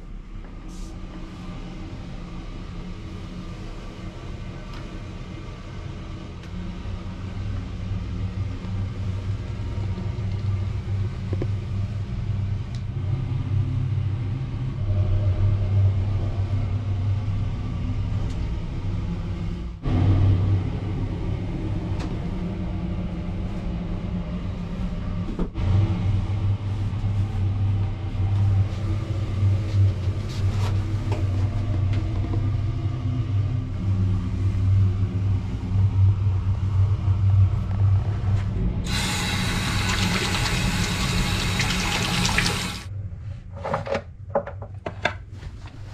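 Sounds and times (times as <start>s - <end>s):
steady low rumble: 0.0s - 44.3s.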